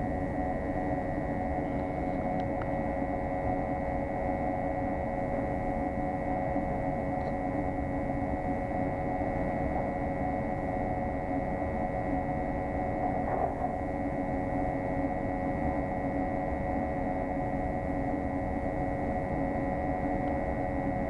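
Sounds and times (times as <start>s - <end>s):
steady mechanical drone: 0.0s - 21.0s
thin high whine: 0.0s - 21.0s.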